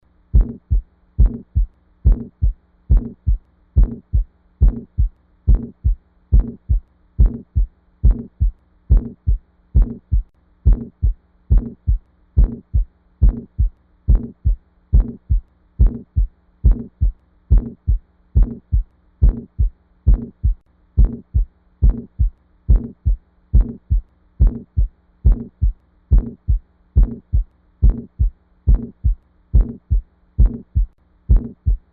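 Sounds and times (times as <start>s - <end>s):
faint low hum: 0.0s - 31.9s
heartbeat through stethoscope: 0.3s - 31.9s.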